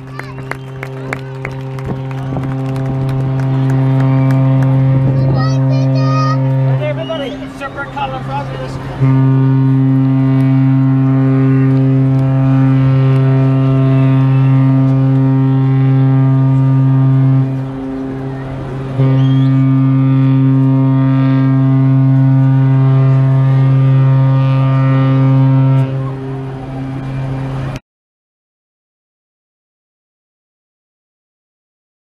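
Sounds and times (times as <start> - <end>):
ship horn blasts: 0.0 - 27.8.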